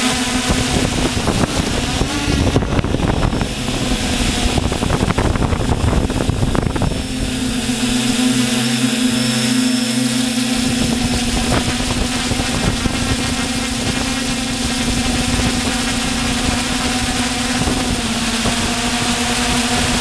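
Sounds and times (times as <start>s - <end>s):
drone propellers humming: 0.0s - 20.0s
wind rumbling on microphone: 0.0s - 20.0s.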